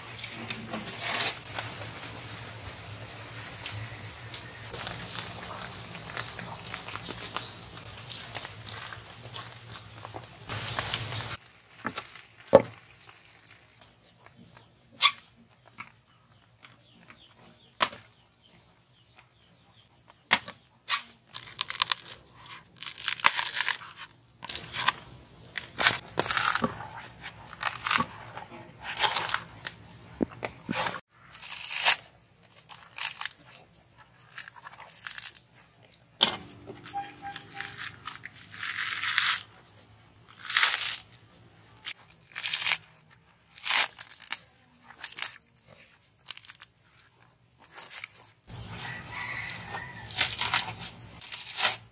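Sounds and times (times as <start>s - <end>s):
coconut husk fibres ripping: 0.0s - 18.2s, 20.0s - 51.9s.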